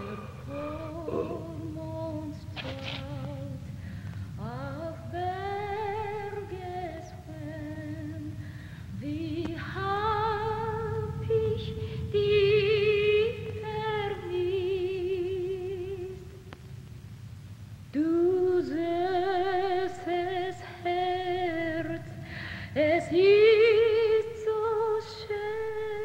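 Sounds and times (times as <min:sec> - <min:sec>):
woman singing with vibrato: 0:00.0 - 0:16.5, 0:17.9 - 0:26.0
low steady rumble: 0:00.0 - 0:26.0.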